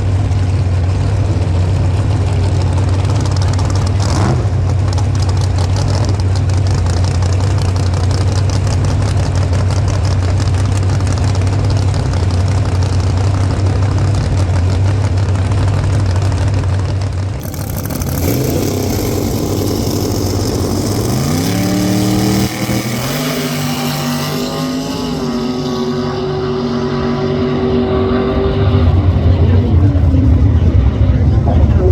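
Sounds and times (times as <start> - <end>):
drag race car engine revving: 0.0 - 31.9.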